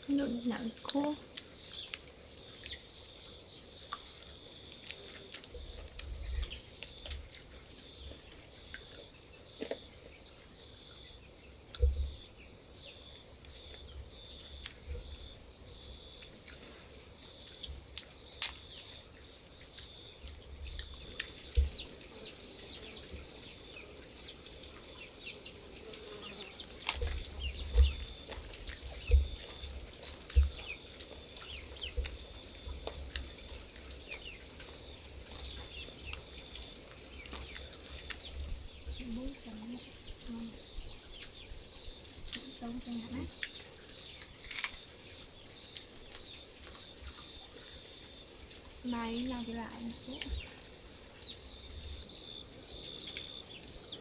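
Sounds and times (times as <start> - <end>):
insects droning and chirping: 0.0 - 54.0.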